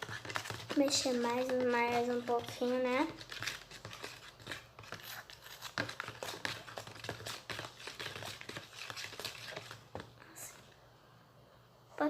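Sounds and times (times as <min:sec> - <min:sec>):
slime being stirred: 0:00.0 - 0:10.8.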